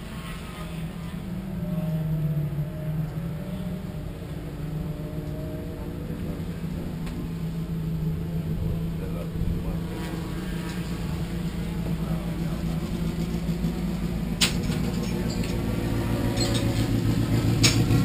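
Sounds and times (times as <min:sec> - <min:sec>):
distant race car engines revving: 0:00.0 - 0:18.0
steady low hum: 0:00.0 - 0:18.0.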